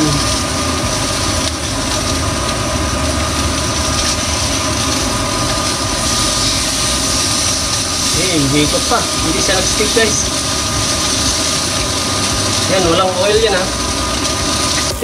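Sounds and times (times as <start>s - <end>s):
fan humming and hissing: 0.0s - 15.0s.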